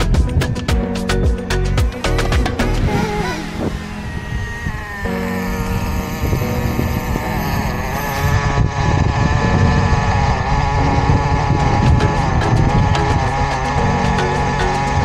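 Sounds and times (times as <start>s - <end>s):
radio-controlled car engine running: 1.7s - 15.0s.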